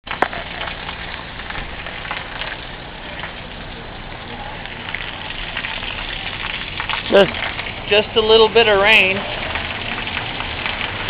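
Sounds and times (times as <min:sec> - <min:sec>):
heavy rain pouring: 0:00.1 - 0:11.0.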